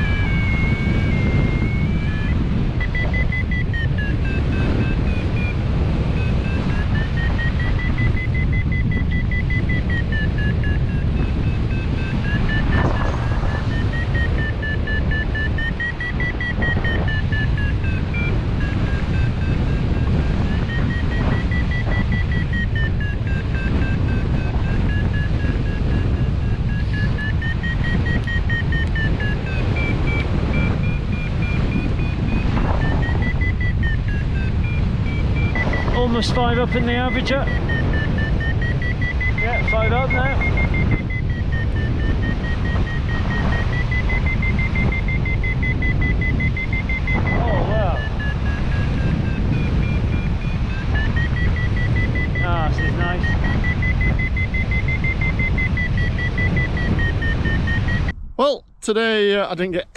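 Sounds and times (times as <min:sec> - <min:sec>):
variometer beeping: 0:00.0 - 0:58.6
wind noise on microphone: 0:00.0 - 0:59.9.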